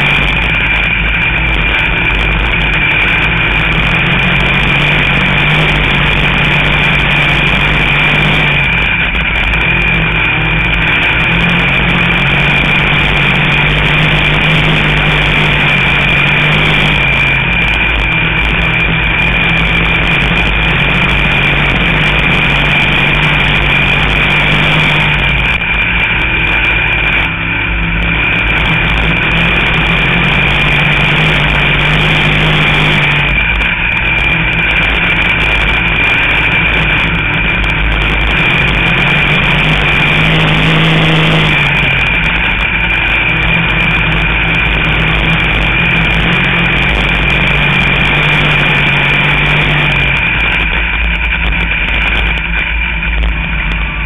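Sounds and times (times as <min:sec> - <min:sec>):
race car engine running hard: 0:00.0 - 0:54.0
steady high whine: 0:00.0 - 0:54.0.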